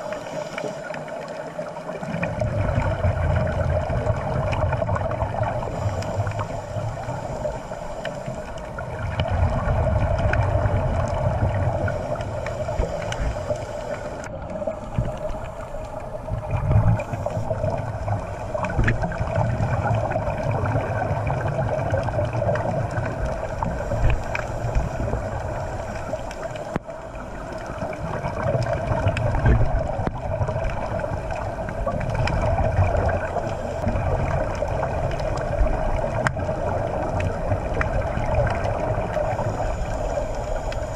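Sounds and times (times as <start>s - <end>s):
muffled underwater drone: 0.0s - 40.9s
scuba exhaust bubbles: 0.0s - 40.9s.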